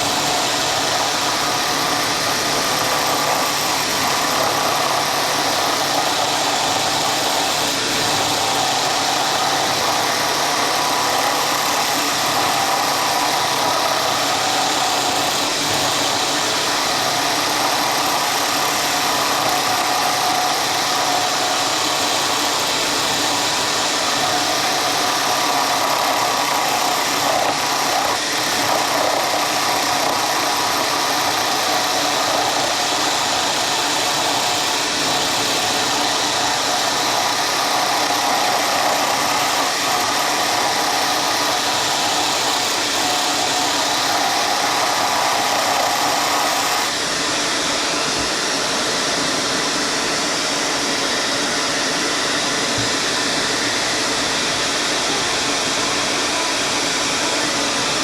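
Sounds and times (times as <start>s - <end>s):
power tool motor whirring: 0.0s - 58.0s.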